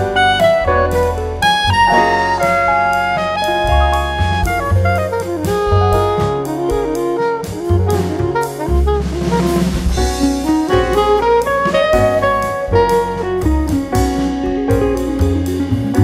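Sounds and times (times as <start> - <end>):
horn melody: 0.0 - 15.7
bass line: 0.0 - 16.0
drum kit with cymbals: 0.0 - 16.0.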